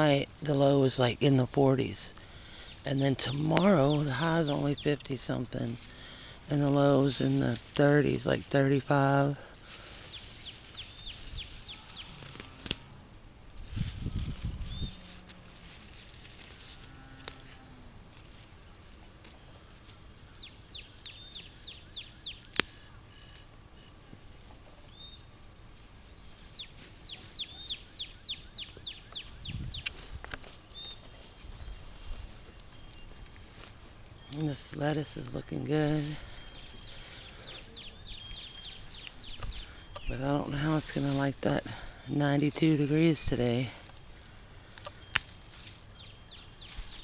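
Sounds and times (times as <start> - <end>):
low rustling: 0.0 - 20.3, 25.2 - 47.0
songbird singing: 0.0 - 47.0.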